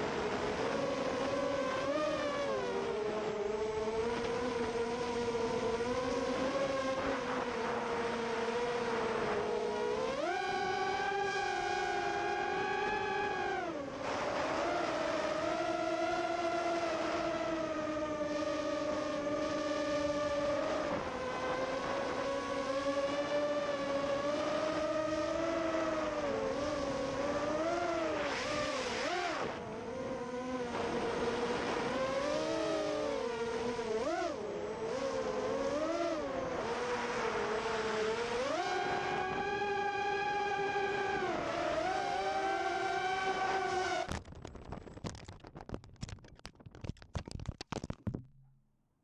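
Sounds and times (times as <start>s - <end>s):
quadcopter motors whining: 0.0s - 44.1s.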